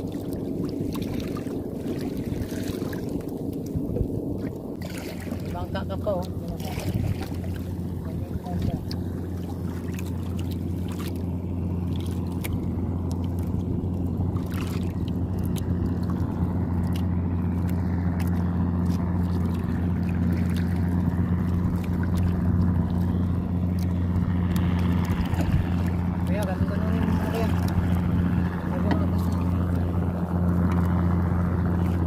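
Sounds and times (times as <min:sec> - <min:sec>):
steady low hum: 0:00.0 - 0:32.0
water splashing against boat: 0:00.0 - 0:32.0
wind: 0:00.0 - 0:32.0.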